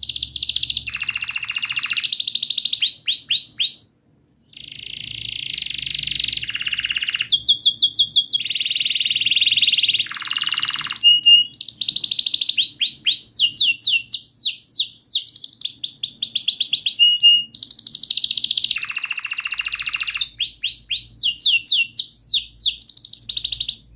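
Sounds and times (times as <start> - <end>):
canary singing: 0.0 - 23.9.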